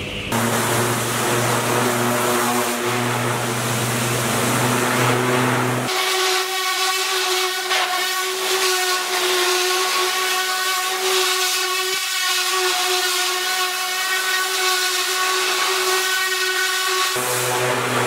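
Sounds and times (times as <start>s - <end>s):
pump motor whine: 0.0s - 18.0s
pressure washer jet hissing: 0.3s - 18.0s.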